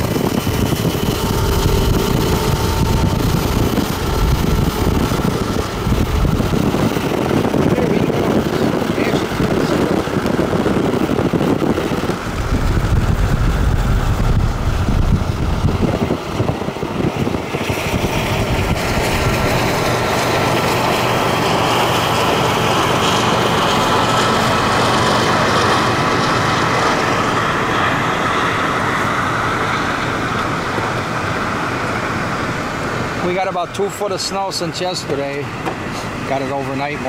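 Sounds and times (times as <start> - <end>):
freight train passing: 0.0 - 37.0
vehicle road rumble: 0.0 - 37.0.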